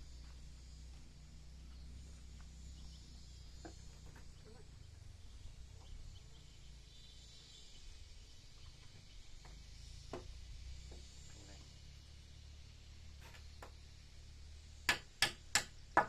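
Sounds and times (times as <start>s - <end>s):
insects hissing: 0.0s - 14.8s.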